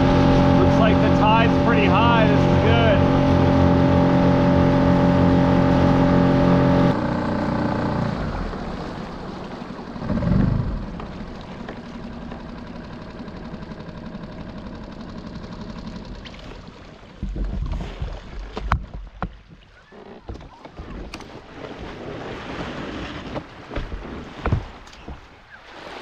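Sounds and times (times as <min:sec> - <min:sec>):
outboard motor running: 0:00.0 - 0:25.6
water washing along hull: 0:00.0 - 0:26.0.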